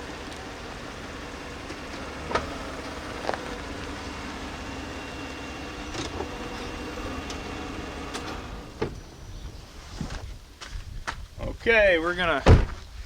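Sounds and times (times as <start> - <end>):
vehicle engine running at low speed: 0.0 - 10.6.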